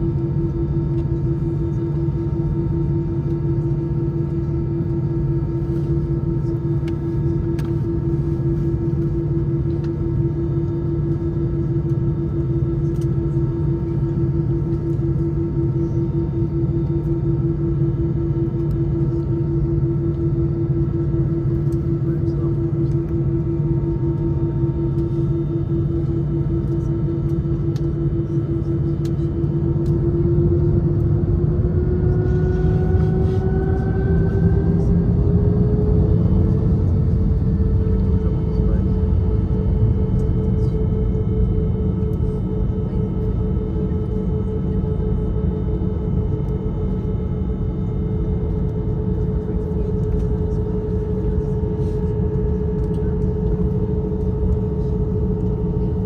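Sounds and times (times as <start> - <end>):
jet engines droning in cabin: 0.0 - 56.0.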